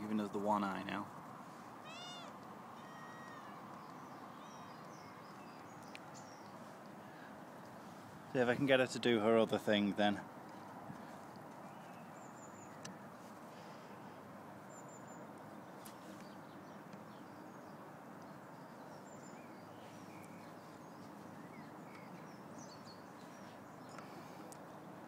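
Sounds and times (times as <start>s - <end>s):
outdoor background noise: 0.0s - 25.0s.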